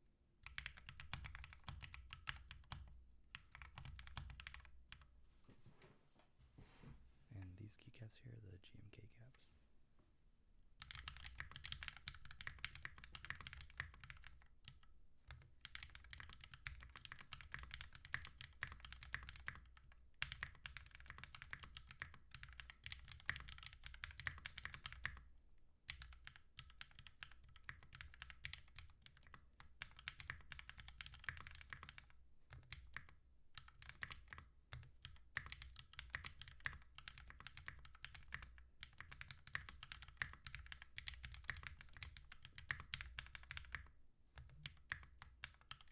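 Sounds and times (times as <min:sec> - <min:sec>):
mechanical keyboard typing: 0:00.4 - 0:05.0, 0:10.8 - 0:25.2, 0:25.9 - 0:45.9.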